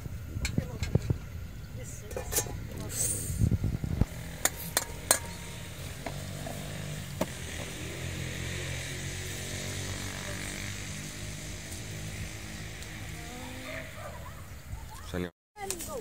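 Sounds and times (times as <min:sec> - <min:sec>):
low hum: 0:00.0 - 0:14.5.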